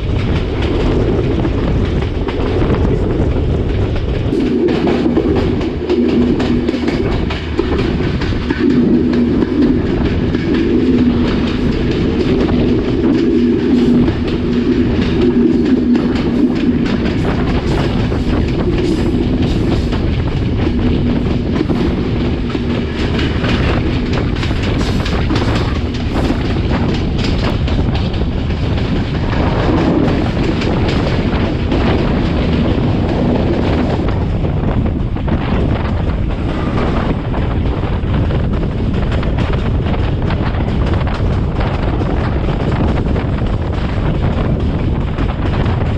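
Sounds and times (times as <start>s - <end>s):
train rolling noise: 0.0s - 45.9s
wheels clicking over rail joints: 0.0s - 45.9s.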